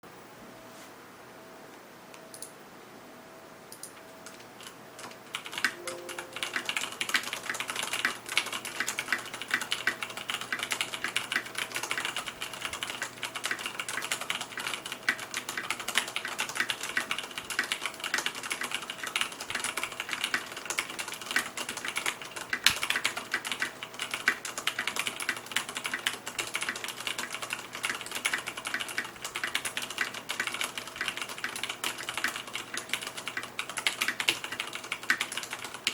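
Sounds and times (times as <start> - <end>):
mechanical keyboard typing: 3.7 - 35.9.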